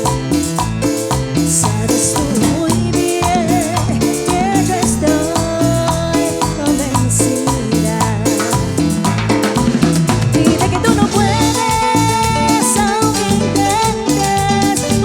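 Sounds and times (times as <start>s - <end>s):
live latin dance band: 0.0s - 15.0s
wavering melodic lead line: 0.0s - 15.0s.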